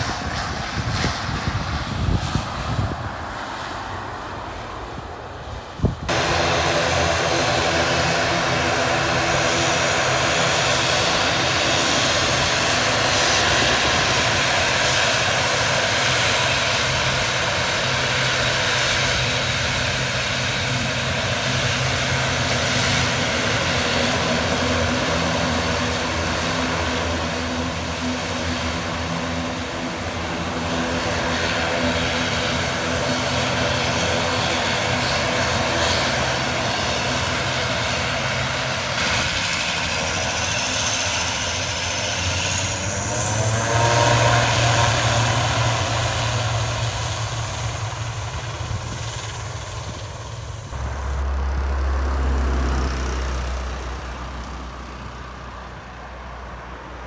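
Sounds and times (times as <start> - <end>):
broad rushing noise: 0.0 - 57.0
turboprop engines running: 0.0 - 57.0.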